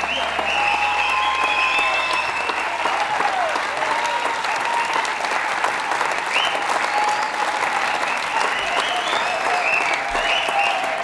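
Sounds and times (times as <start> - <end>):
audience applauding: 0.0 - 11.0
crowd cheering: 0.0 - 11.0.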